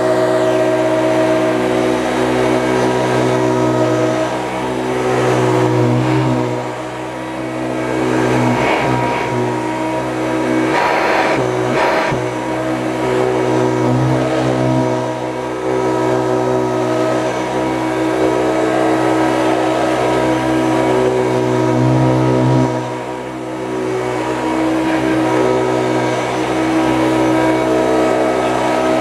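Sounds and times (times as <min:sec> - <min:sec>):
upright vacuum cleaner running: 0:00.0 - 0:29.0.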